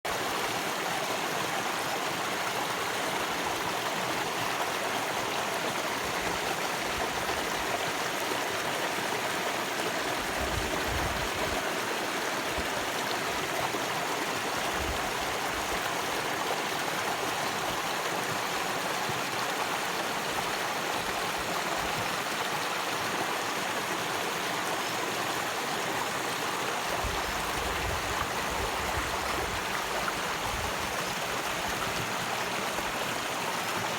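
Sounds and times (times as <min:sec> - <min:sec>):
stream water flowing: 0:00.1 - 0:33.9.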